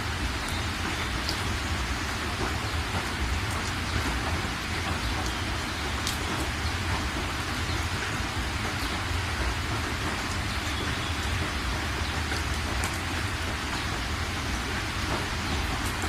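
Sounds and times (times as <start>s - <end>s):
raindrops clicking close by: 0.0s - 16.0s
steady rain hiss: 0.0s - 16.0s.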